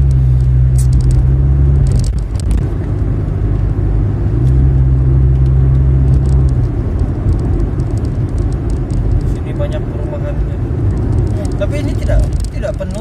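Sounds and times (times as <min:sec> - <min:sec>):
deep engine drone: 0:00.0 - 0:12.4
car engine and road noise: 0:00.0 - 0:13.0.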